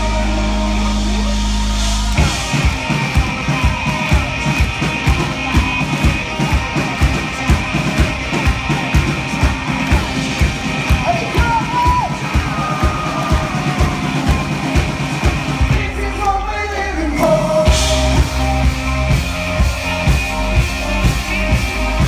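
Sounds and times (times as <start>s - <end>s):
rock band playing live: 0.0s - 22.0s
driving kick drum beat: 2.0s - 22.0s.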